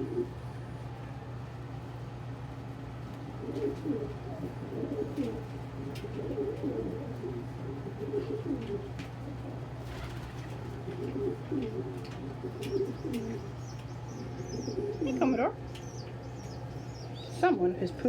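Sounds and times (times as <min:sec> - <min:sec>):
pigeons cooing: 0:00.0 - 0:00.5, 0:03.2 - 0:17.3
steady low hum: 0:00.0 - 0:18.0.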